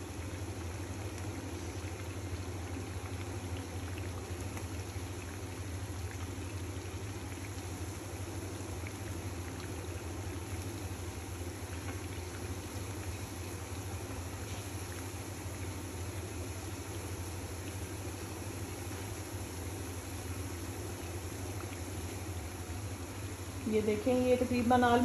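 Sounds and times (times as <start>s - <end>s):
low steady hum: 0.0s - 25.0s
patties frying in hot oil: 0.0s - 25.0s.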